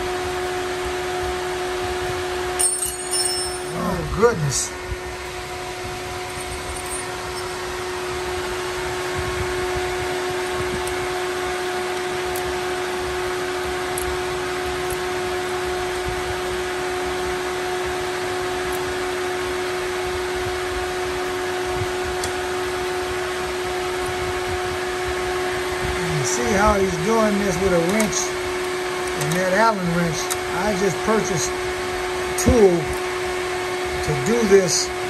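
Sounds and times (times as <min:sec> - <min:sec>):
machine whirring hum: 0:00.0 - 0:35.0.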